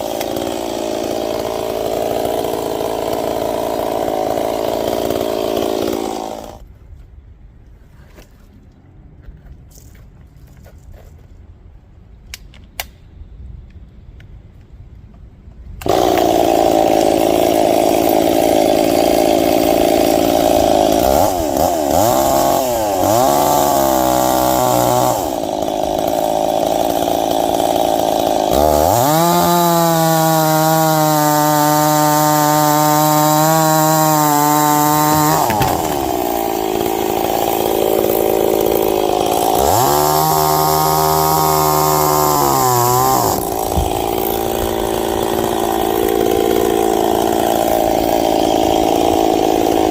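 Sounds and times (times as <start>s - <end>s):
chainsaw cutting wood: 0.0s - 6.7s, 15.8s - 49.9s.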